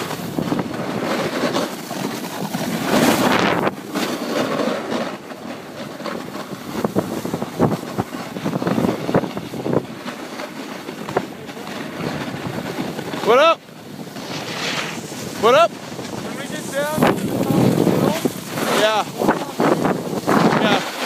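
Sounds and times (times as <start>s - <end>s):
snowboard scraping over snow: 0.0s - 21.0s
wind on microphone: 0.0s - 21.0s.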